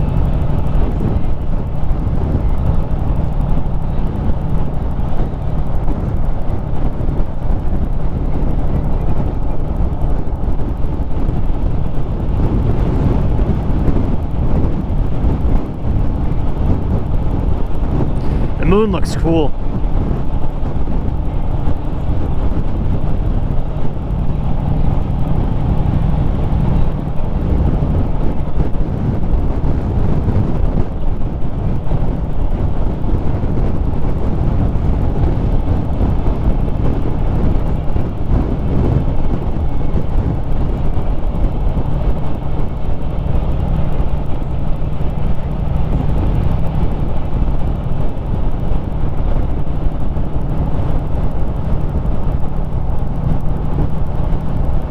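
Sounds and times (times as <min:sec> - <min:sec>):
motorcycle engine running: 0:00.0 - 0:18.6, 0:19.5 - 0:54.9.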